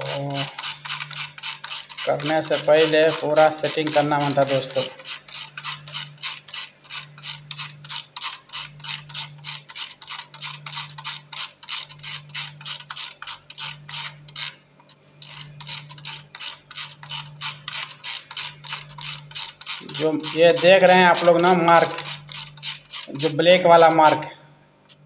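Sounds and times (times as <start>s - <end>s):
timer dial ratchet clicking: 0.0s - 24.2s.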